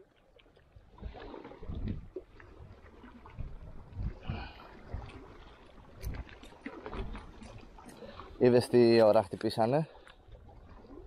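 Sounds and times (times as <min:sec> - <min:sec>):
water lapping against boat: 0:00.0 - 0:11.0.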